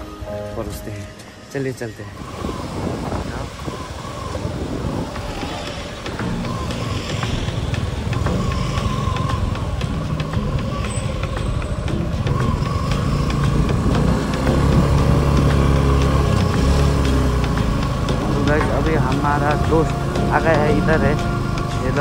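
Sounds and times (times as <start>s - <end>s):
motorcycle engine running: 2.3s - 22.0s.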